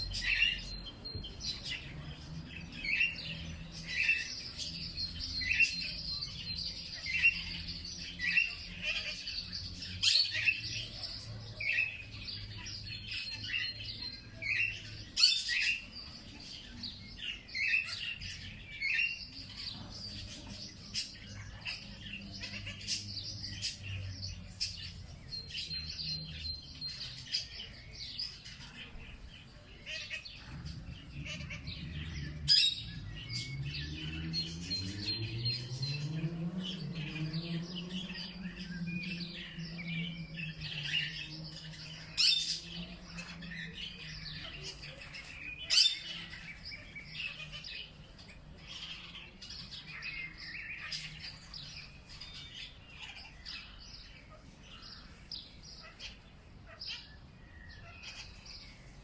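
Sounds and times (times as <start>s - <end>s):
sharp loud bird calls: 0.0s - 59.0s
small birds chirping chorus: 0.0s - 59.0s.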